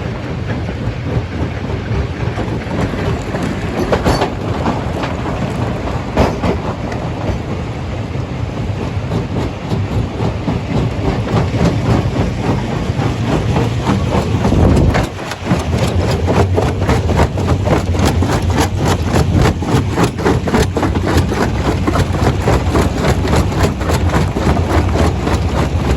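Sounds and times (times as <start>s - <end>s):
heavy low rumble: 0.0s - 25.9s
stone crusher rattling: 2.4s - 7.5s, 9.2s - 25.9s.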